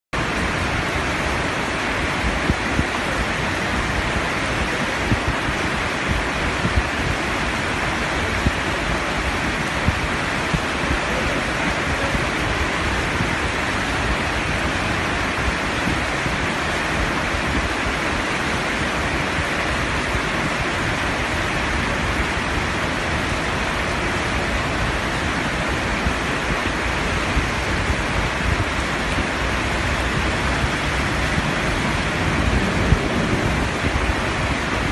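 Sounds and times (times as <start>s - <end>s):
rushing water: 0.2s - 34.9s.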